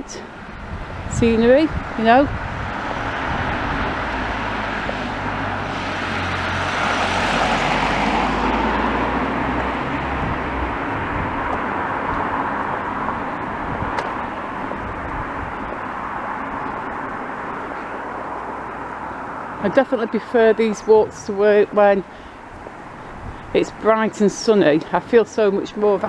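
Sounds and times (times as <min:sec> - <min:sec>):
car passing on road: 0:00.0 - 0:26.0
steady street noise: 0:00.0 - 0:26.0.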